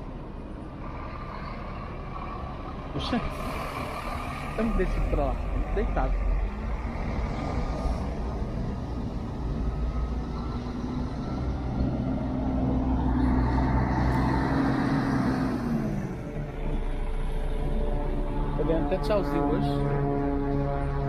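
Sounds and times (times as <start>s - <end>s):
diesel coach engines rumbling: 0.0s - 21.0s.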